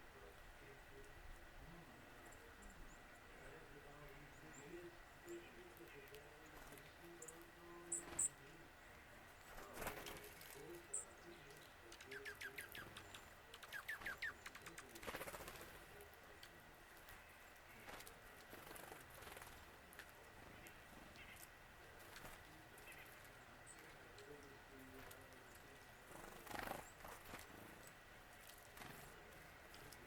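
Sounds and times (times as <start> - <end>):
songbirds calling faintly: 0.0 - 30.0.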